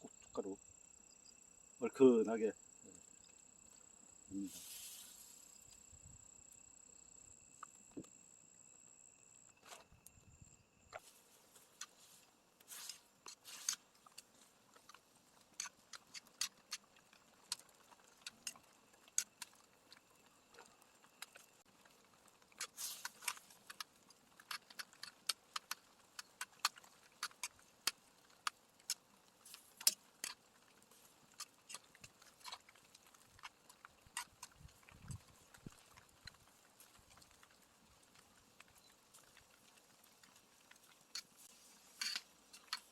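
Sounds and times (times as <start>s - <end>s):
cricket trilling: 0.0s - 42.9s
sharp clicks and pops: 5.3s - 8.2s, 9.3s - 42.9s.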